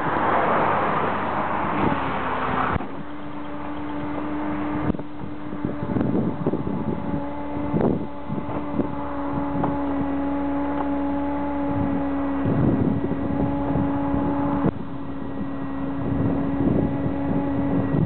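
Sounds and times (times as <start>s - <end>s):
wind on microphone: 0.0s - 18.0s
low mechanical hum: 1.6s - 18.0s.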